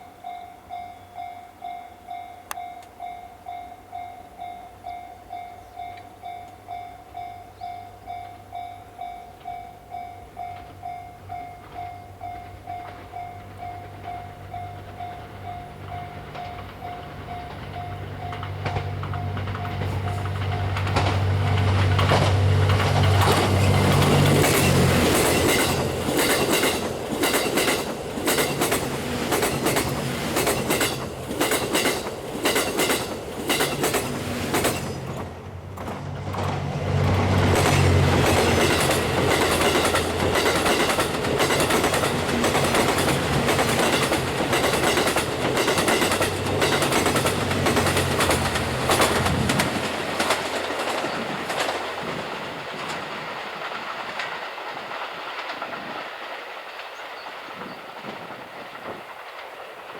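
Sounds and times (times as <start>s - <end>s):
train wheels clattering over rails: 10.4s - 59.9s.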